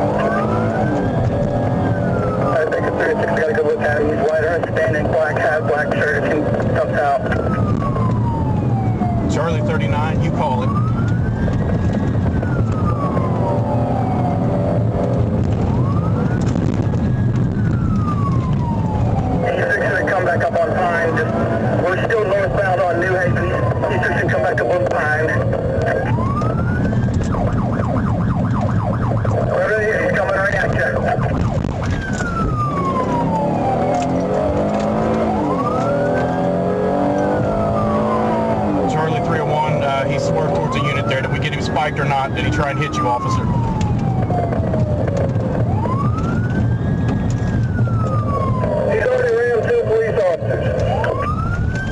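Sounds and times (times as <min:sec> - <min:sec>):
engine and road rumble: 0:00.0 - 0:51.9
police siren wailing: 0:00.0 - 0:51.9.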